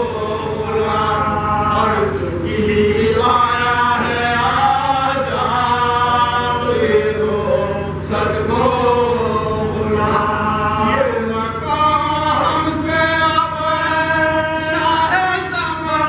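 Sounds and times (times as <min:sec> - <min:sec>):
men chanting a lament: 0:00.0 - 0:16.0
steady low hum: 0:00.0 - 0:16.0.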